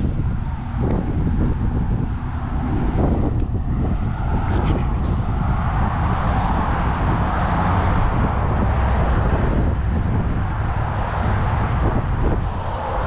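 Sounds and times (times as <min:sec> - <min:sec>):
street traffic noise: 0:00.0 - 0:13.0
wind rumbling on microphone: 0:00.0 - 0:13.0.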